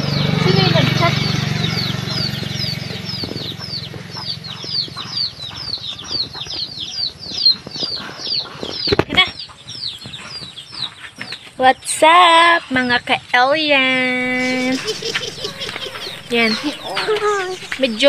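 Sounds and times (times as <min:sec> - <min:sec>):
chicks peeping: 0:00.0 - 0:13.1, 0:13.7 - 0:18.0.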